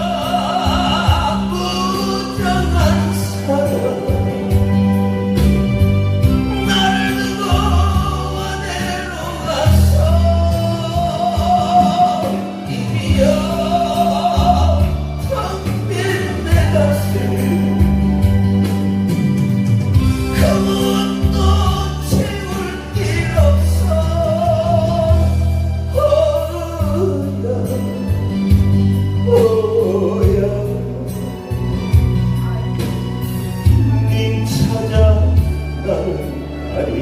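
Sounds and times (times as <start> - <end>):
pop song through loudspeakers: 0.0 - 37.0.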